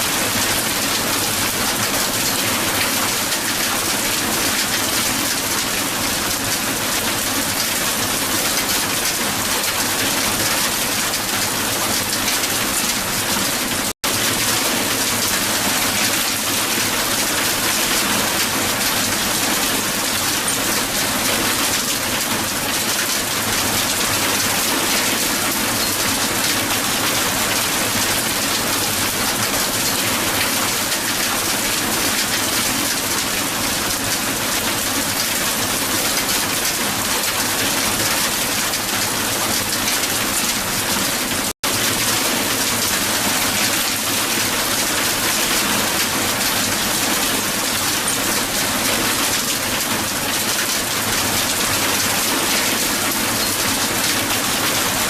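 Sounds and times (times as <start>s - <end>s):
hail pelting the ground: 0.0s - 55.0s.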